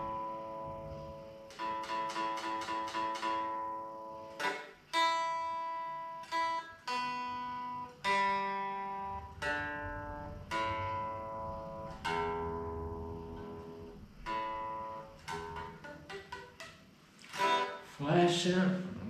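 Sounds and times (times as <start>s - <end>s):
clean electric guitar notes: 0.0s - 19.0s.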